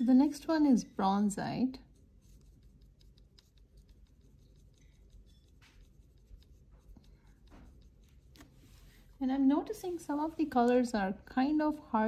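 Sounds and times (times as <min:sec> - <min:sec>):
paint brush scrubbing: 0:00.0 - 0:10.9.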